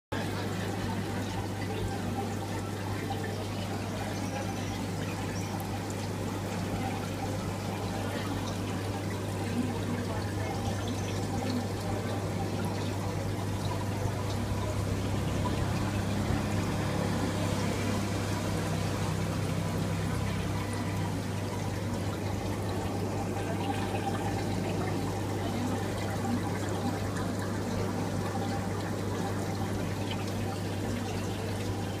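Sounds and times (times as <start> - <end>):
low pump hum: 0.1 - 32.0
water bubbling and trickling: 0.2 - 32.0.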